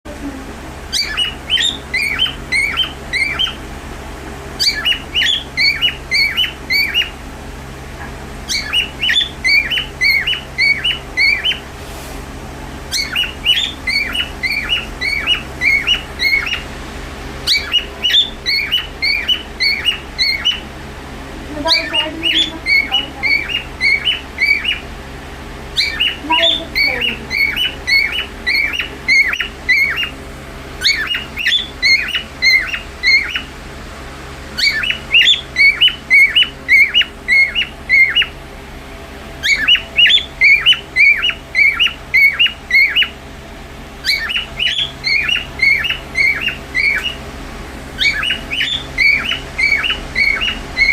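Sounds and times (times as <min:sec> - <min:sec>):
parrot chirping: 0:00.8 - 0:03.8, 0:04.5 - 0:07.2, 0:08.0 - 0:11.7, 0:12.8 - 0:33.6, 0:34.5 - 0:38.4, 0:39.3 - 0:43.3, 0:44.0 - 0:50.9.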